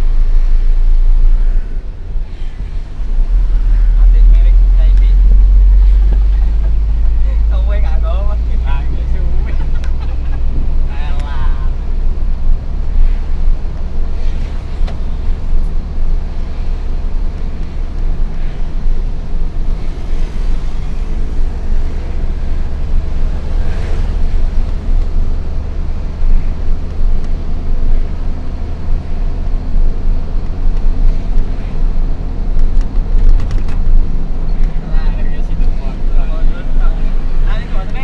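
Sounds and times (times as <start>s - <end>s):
diesel truck engine drone: 0.0s - 38.0s.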